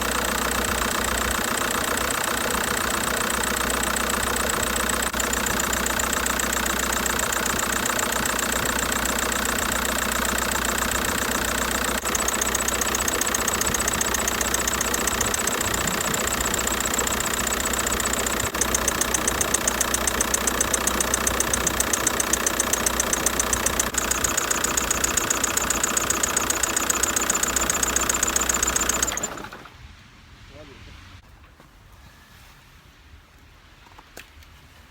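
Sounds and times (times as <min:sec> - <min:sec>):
diesel engine idling: 0:00.0 - 0:29.7.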